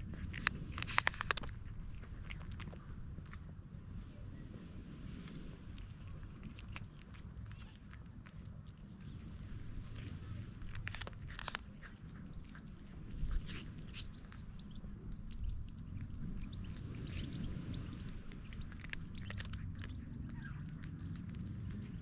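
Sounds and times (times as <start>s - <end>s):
cat chewing and crunching food: 0.0s - 22.0s.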